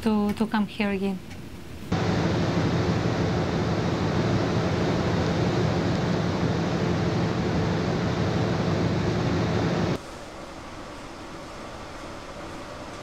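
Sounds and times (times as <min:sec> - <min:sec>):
low even hum: 0:00.0 - 0:13.0.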